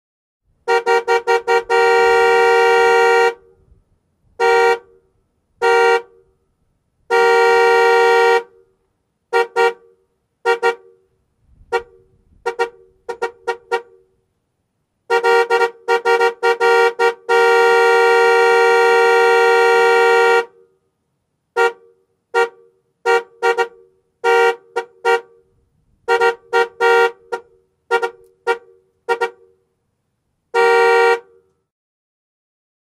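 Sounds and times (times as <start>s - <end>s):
car horn honking: 0.6s - 14.2s, 15.1s - 20.9s, 21.5s - 29.7s, 30.5s - 31.7s.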